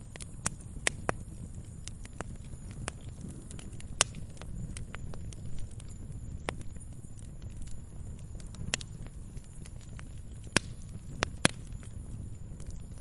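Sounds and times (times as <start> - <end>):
low rumble of burning: 0.0 - 13.0
wood fire snapping and popping: 0.0 - 13.0.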